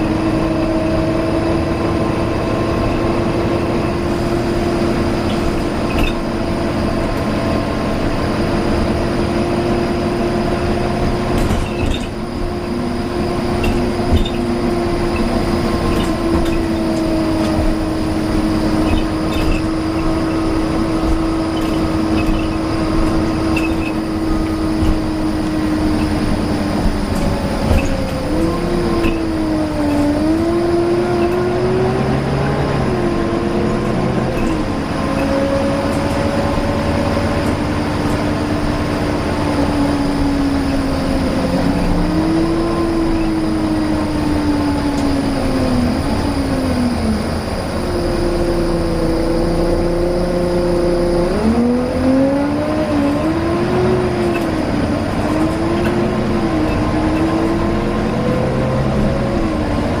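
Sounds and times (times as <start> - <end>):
bus engine rumble: 0.0 - 60.0
bus engine whine: 0.0 - 60.0.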